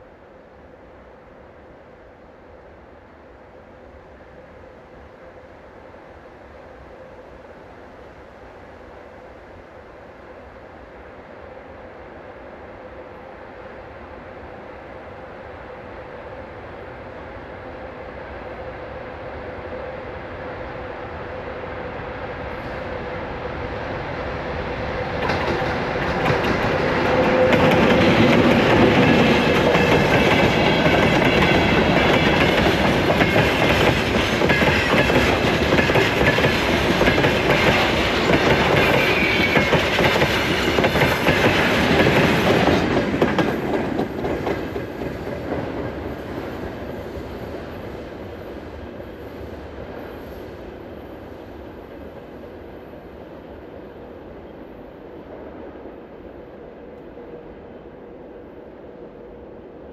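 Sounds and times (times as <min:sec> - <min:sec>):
diesel locomotive: 0:00.0 - 0:59.9.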